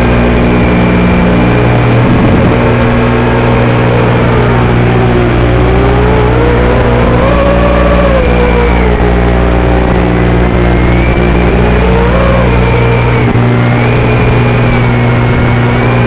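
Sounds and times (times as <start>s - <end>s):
loud steady buzzing hum: 0.0s - 16.0s
whine shifting in pitch: 0.0s - 16.0s.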